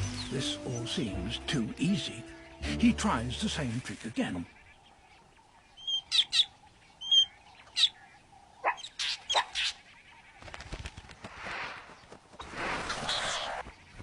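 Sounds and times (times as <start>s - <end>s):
bird alarm calls: 1.9s - 14.0s.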